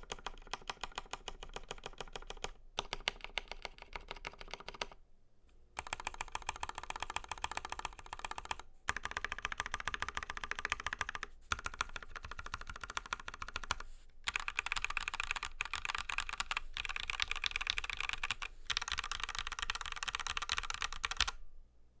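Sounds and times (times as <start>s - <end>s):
fast typing on mechanical keyboard: 0.0s - 5.0s, 5.8s - 21.4s.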